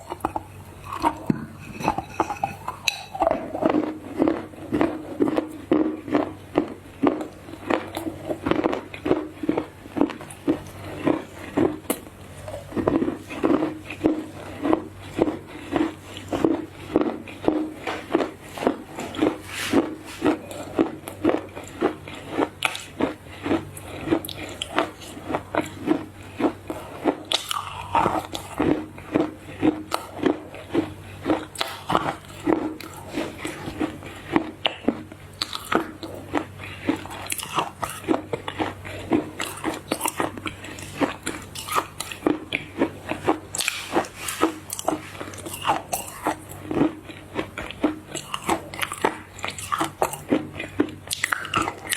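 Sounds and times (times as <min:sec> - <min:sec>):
crunchy food chewing: 0:00.0 - 0:51.9
wet mouth sounds: 0:00.0 - 0:51.9.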